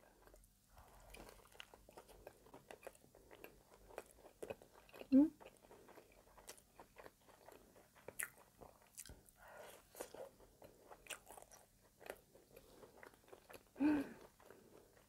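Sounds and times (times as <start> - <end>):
soft wet chewing: 0.0 - 15.0.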